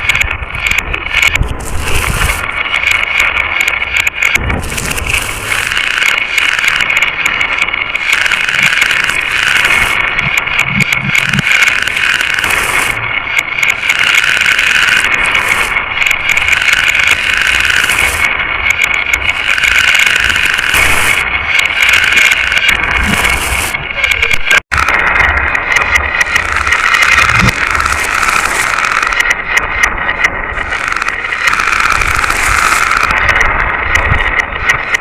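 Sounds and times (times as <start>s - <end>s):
glass marbles rattling along track: 0.7s - 13.0s, 13.6s - 23.4s, 25.7s - 29.4s, 30.6s - 33.3s.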